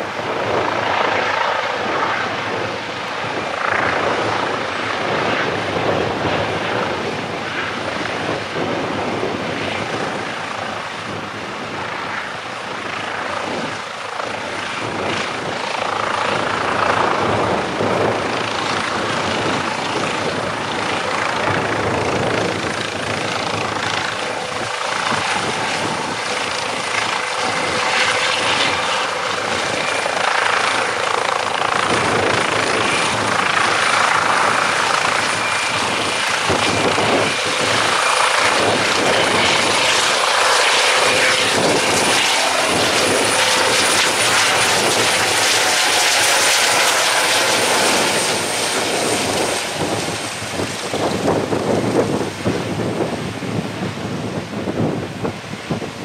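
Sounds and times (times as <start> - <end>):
helicopter engines whining: 0.0 - 56.0
helicopter rotor: 0.0 - 56.0.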